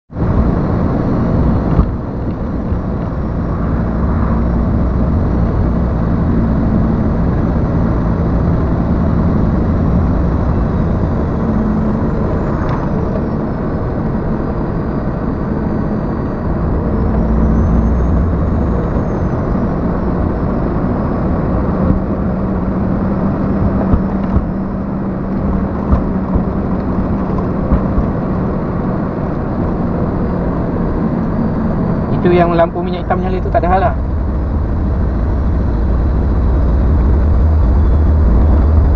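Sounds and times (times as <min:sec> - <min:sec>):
diesel truck engine drone: 0:00.1 - 0:38.9
road noise: 0:00.1 - 0:38.9.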